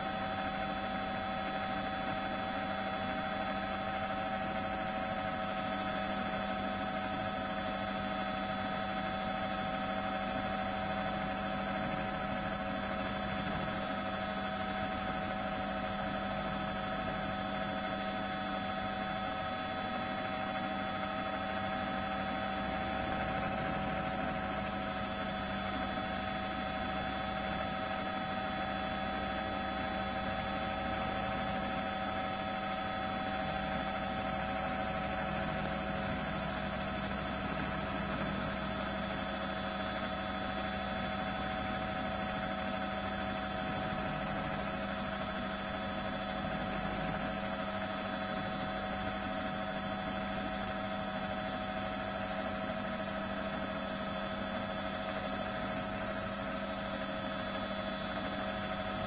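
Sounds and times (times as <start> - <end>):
helicopter engine drone: 0.0 - 59.0
steady whining tones: 0.0 - 59.0.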